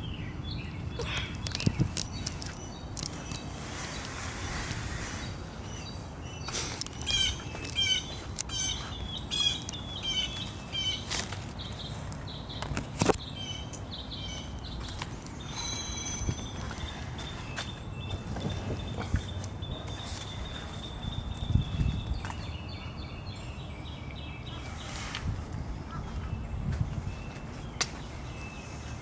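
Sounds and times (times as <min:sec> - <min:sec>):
birds chirping: 0:00.0 - 0:29.0
outdoor background noise: 0:00.0 - 0:29.0.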